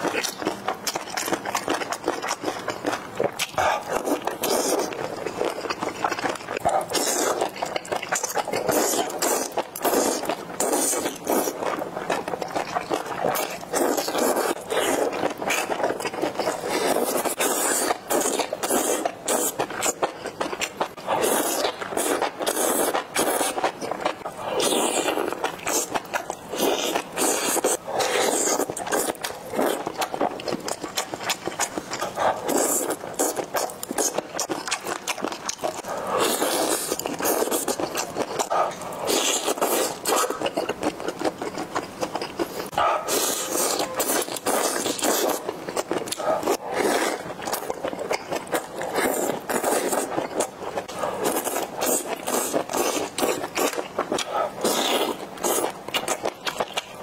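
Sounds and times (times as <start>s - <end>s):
wet chewing and smacking: 0.0s - 57.0s
slurping noodles: 3.6s - 20.1s, 21.1s - 57.0s.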